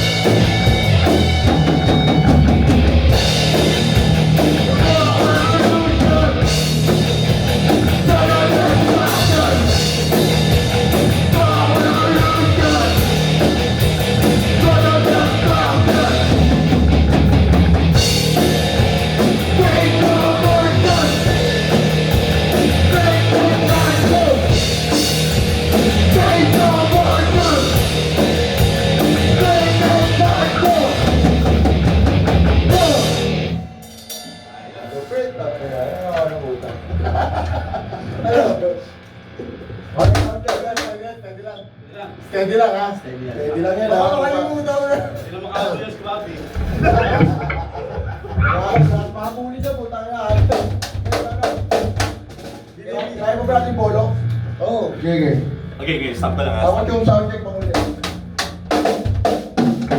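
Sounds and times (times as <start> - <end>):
bass guitar: 0.0 - 33.9, 36.2 - 40.5, 46.4 - 49.7, 50.3 - 59.9
drum kit pounding: 0.0 - 35.0, 39.2 - 41.1, 44.8 - 59.9
heavy guitars: 0.0 - 59.9.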